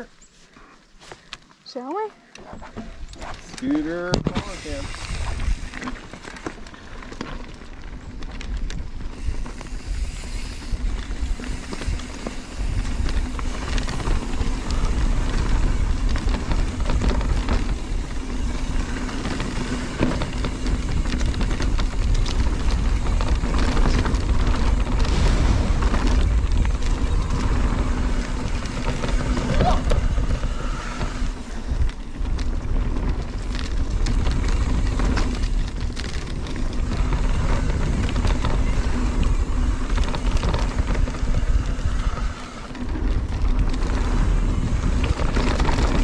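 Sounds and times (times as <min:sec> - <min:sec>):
bike rattling over bumps: 0:00.0 - 0:46.0
bike tyres rolling on dirt: 0:00.0 - 0:46.0
wind buffeting microphone: 0:02.9 - 0:46.0.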